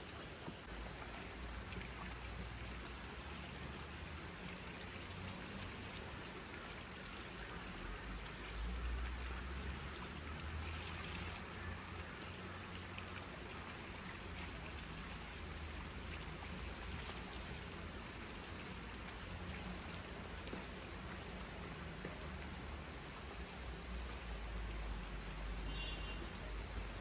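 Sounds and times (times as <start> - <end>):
flowing water rushing: 0.0 - 27.0.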